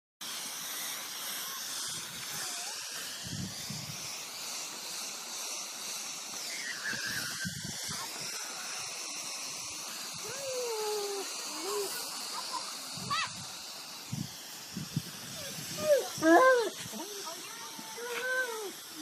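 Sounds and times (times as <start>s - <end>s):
garden hose spraying hiss: 0.2s - 19.0s.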